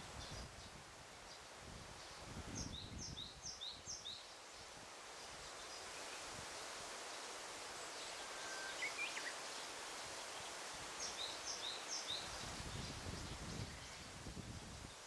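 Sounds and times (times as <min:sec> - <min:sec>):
rustling leaves: 0:00.0 - 0:15.0.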